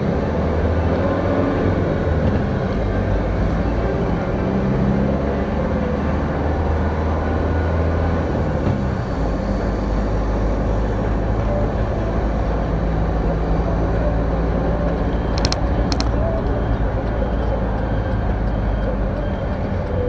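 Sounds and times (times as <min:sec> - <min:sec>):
road noise: 0:00.0 - 0:20.0
truck engine drone: 0:00.0 - 0:20.0.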